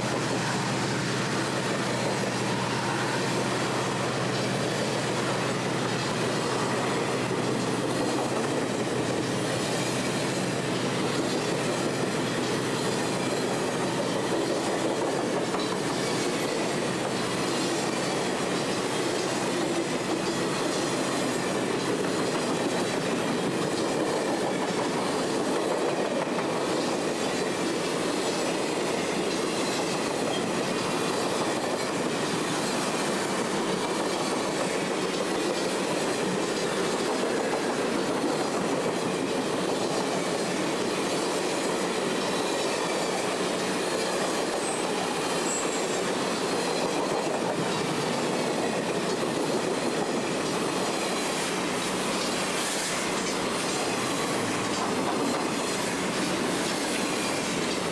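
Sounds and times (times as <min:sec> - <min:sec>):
train wheels rolling on rails: 0:00.0 - 0:57.9.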